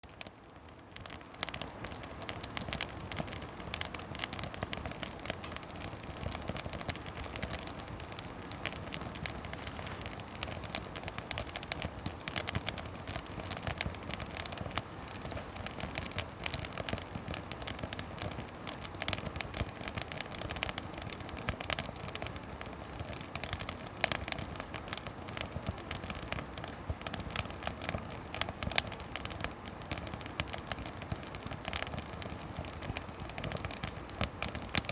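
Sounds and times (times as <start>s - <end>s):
campfire crackling: 0.0s - 34.9s
fire pops: 0.1s - 34.9s
fire hiss: 1.3s - 34.9s.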